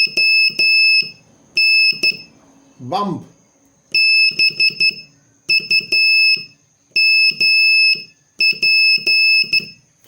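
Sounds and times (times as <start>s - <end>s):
morse code beeps: 0.0s - 2.3s, 3.9s - 9.8s.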